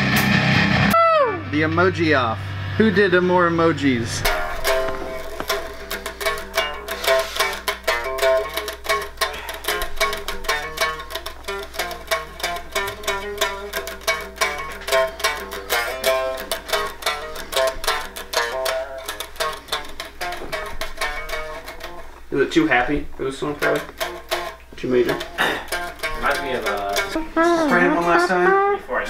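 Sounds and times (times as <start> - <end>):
electric guitar single notes: 0.0 - 22.3, 23.5 - 29.0.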